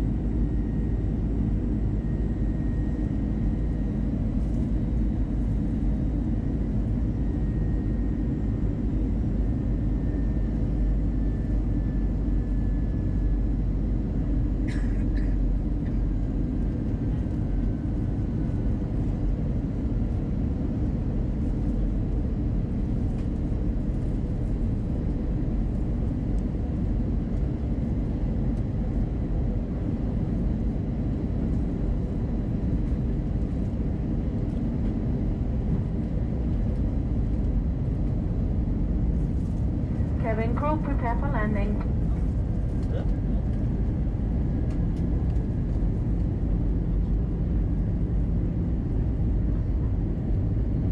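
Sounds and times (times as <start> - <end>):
airplane cabin rumble: 0.0 - 50.9.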